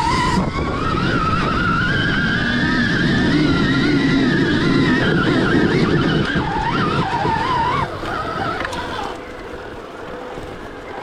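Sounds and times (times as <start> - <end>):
electric dirt bike motor whining: 0.0 - 11.0
rumble of riding over trail: 0.0 - 11.0.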